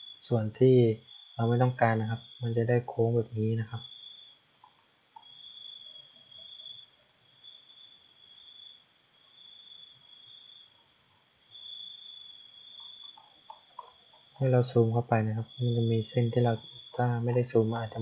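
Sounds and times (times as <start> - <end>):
high insect chirps: 0.0 - 18.0
insects trilling: 0.0 - 18.0.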